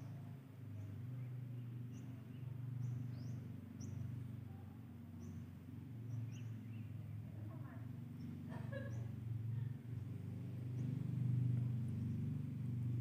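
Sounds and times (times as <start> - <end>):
small birds chirping: 0.0 - 9.2, 10.6 - 13.0.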